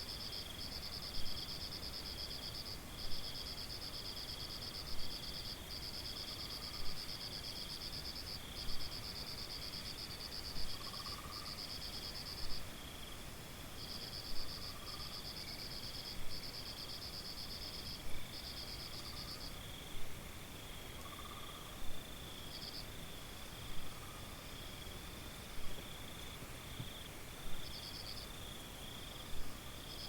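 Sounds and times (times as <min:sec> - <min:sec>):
crickets trilling: 0:00.0 - 0:13.2, 0:13.8 - 0:30.0
short insect call: 0:00.0 - 0:13.2, 0:13.8 - 0:20.0, 0:20.6 - 0:30.0
thin insect tone: 0:00.0 - 0:30.0.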